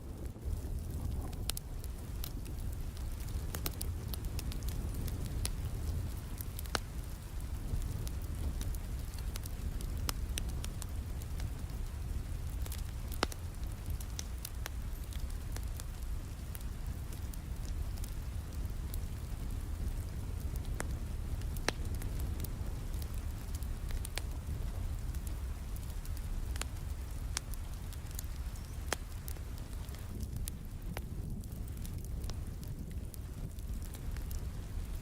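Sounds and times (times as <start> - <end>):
steady rain: 0.0 - 35.0
wood fire crackling and popping: 0.0 - 35.0.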